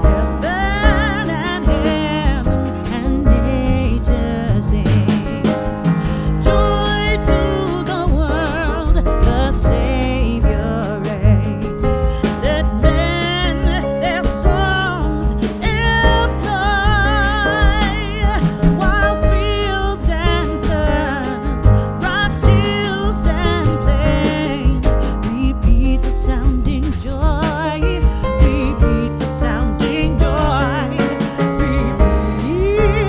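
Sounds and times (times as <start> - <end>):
song with sung vocals and beat: 0.0 - 33.0.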